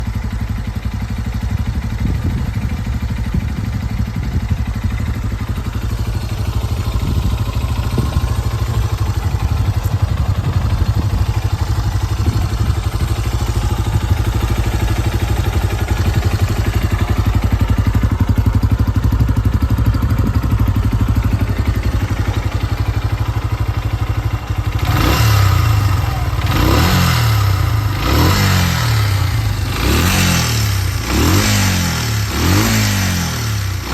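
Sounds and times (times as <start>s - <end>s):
motorcycle engine idling: 0.0s - 33.9s
motorcycle throttle blips: 0.9s - 31.6s.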